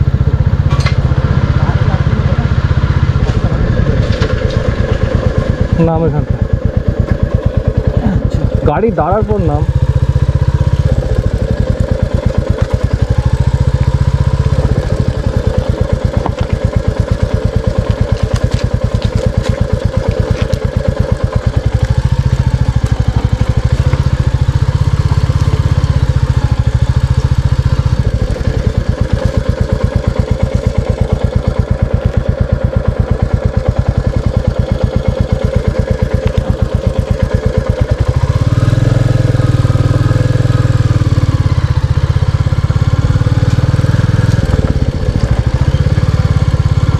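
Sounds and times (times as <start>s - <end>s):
motorcycle engine thumping: 0.0s - 46.9s.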